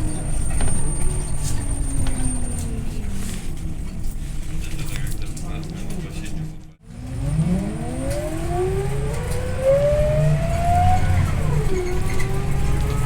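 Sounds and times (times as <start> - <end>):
bus drivetrain whining: 0.0 - 13.0.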